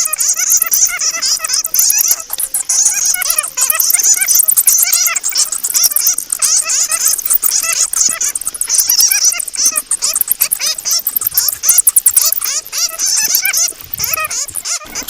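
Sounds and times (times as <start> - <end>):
fruit bats squeaking and chattering: 0.0 - 15.0.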